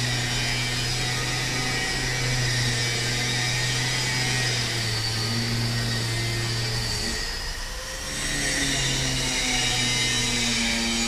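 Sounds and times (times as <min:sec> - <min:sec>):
circular saw running: 0:00.0 - 0:11.0.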